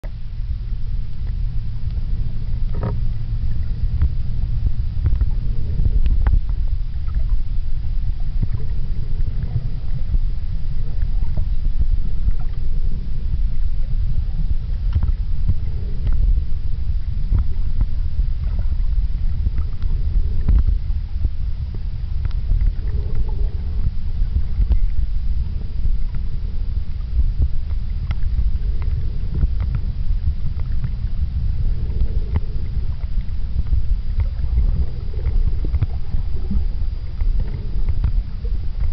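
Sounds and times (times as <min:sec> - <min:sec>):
faint underwater clicks: 0:00.0 - 0:38.9
underwater rumble: 0:00.0 - 0:38.9.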